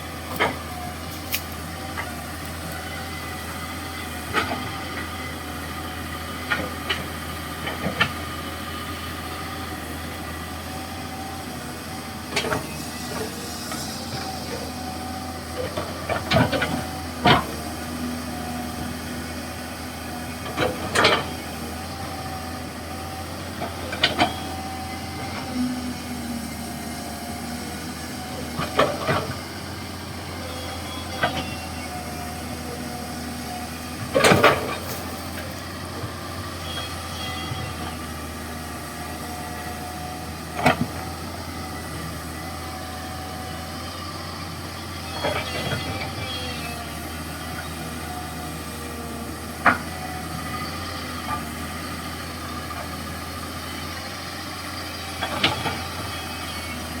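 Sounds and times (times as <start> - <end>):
excavator engine low hum: 0.0 - 57.0.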